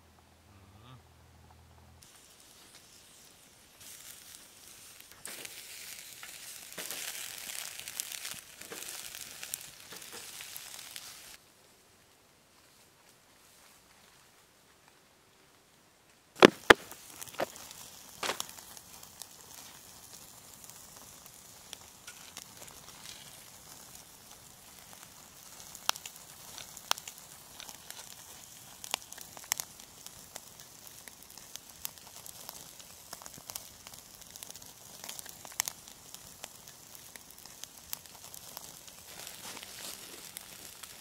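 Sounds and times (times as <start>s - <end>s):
quiet steady hiss: 0.0s - 41.0s
faint crackles and clicks: 2.0s - 11.4s, 12.5s - 41.0s.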